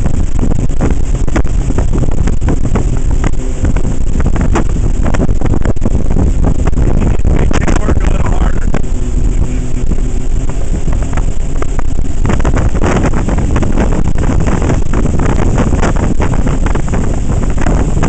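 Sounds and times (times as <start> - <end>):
boat engine running: 0.0 - 18.0
rush of churning wake: 0.0 - 18.0
wind buffeting microphone: 0.0 - 18.0.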